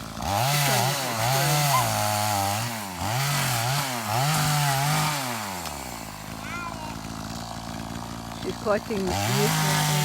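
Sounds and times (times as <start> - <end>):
chainsaw cutting wood: 0.0 - 10.0.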